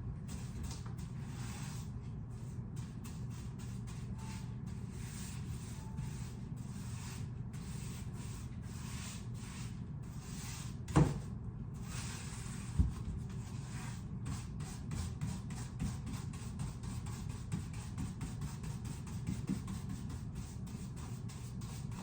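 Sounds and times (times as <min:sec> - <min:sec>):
paintbrush strokes on wall: 0:00.3 - 0:10.9, 0:11.8 - 0:22.0.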